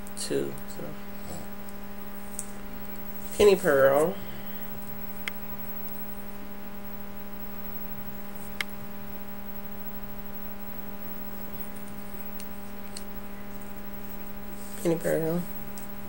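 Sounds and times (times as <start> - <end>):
electrical hum with hiss: 0.0 - 16.0.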